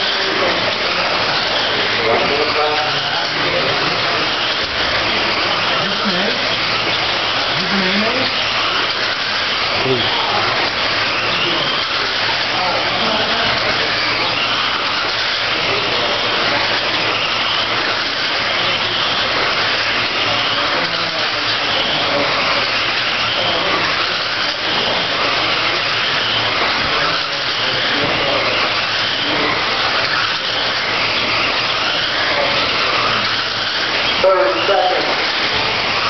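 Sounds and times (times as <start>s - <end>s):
radio-controlled cars whirring: 0.0s - 36.0s.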